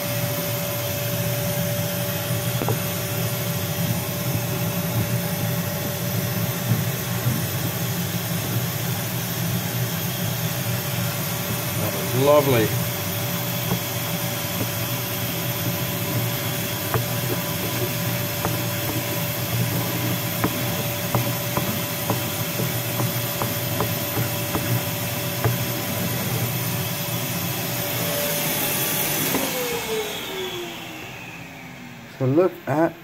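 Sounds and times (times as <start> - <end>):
cnc spindle whining: 0.0 - 32.1.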